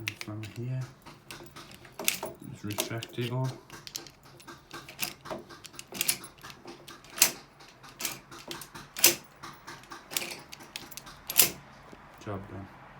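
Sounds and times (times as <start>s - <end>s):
door lock clicking and clacking: 0.0s - 11.7s.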